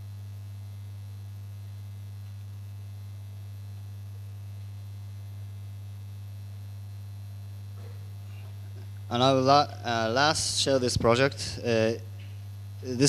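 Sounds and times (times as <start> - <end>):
mains hum: 0.0 - 13.0.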